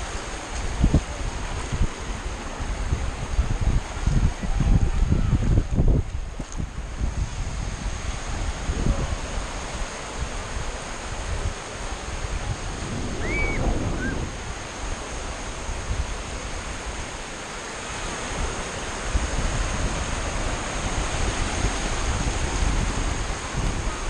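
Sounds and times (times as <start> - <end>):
surf waves breaking on sand: 0.0 - 24.0
wind rumbling on microphone: 0.0 - 24.0.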